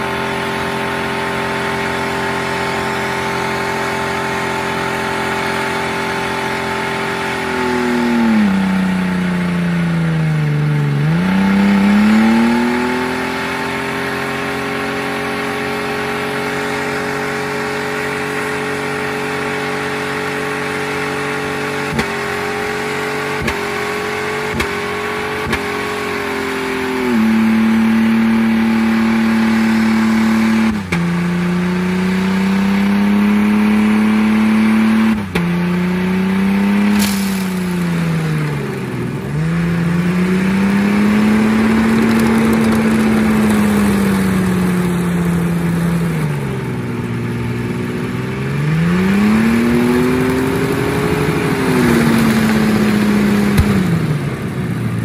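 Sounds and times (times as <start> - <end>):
car engine revving hard: 0.0 - 54.6.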